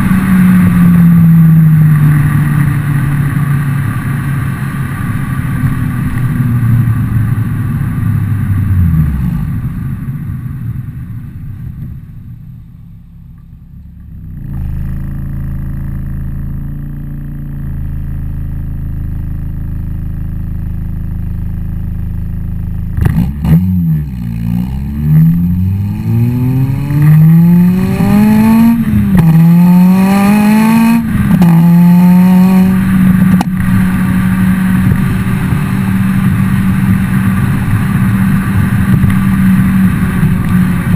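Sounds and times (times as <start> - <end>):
car engine idling and revving: 0.0 - 40.9
exhaust crack: 0.0 - 40.9.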